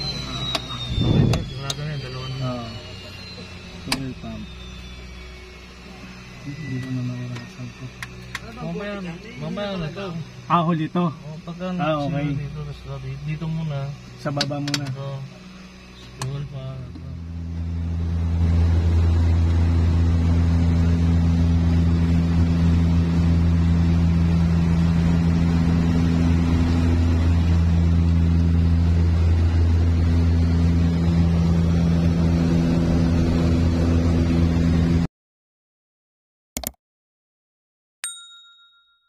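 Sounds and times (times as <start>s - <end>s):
turboprop engine running: 0.0s - 35.1s.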